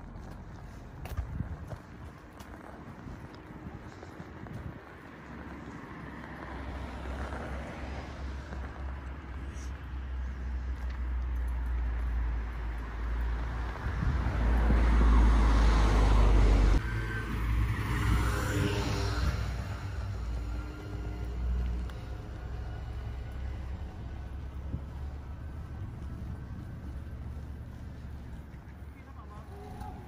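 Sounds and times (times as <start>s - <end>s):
car rumble and tyre noise: 0.0s - 30.0s.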